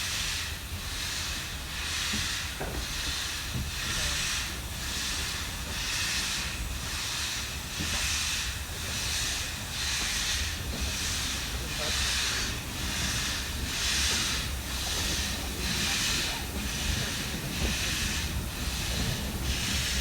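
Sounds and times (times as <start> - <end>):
low rumble of moving train: 0.0 - 20.0
steam locomotive chuffing: 0.0 - 20.0.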